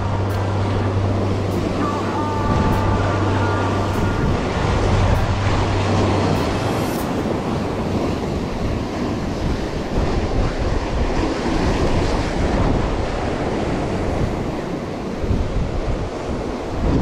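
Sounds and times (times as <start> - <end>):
ocean surf breaking over rocks: 0.0 - 17.0
wind buffeting microphone: 0.0 - 17.0.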